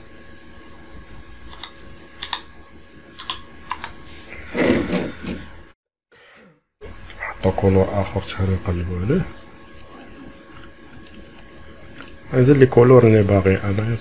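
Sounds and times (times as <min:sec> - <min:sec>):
faint electrical hum: 0:00.0 - 0:05.8, 0:06.8 - 0:14.0.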